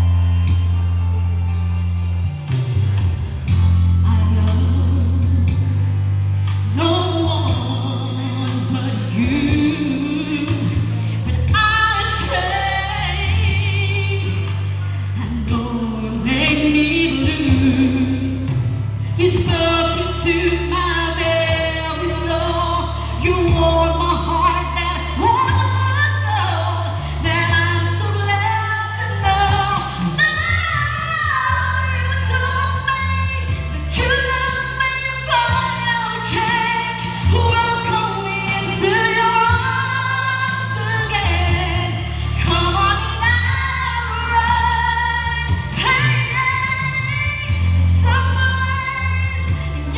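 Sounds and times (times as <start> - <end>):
musical accompaniment with bass line: 0.0 - 49.9
woman singing: 4.0 - 5.8, 6.7 - 49.9.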